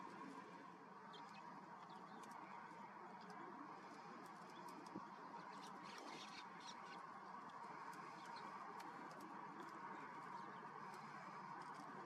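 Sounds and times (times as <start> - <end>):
sparrows chirping: 1.0 - 11.9.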